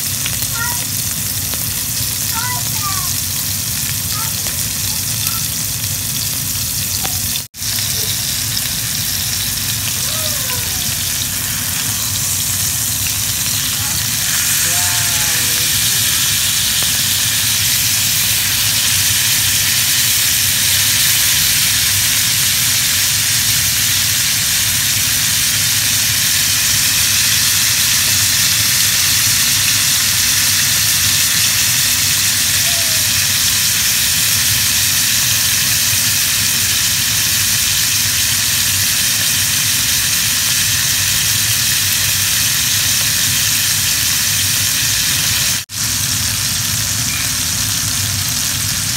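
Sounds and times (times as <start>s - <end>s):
steaks sizzling in a skillet: 0.0s - 48.9s.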